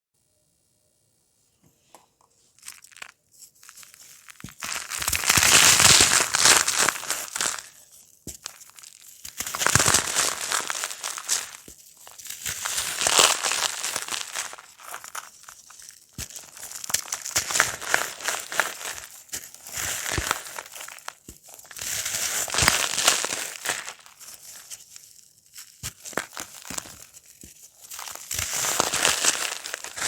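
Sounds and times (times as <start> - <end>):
dry cake crunching and crumbling: 2.6 - 30.0.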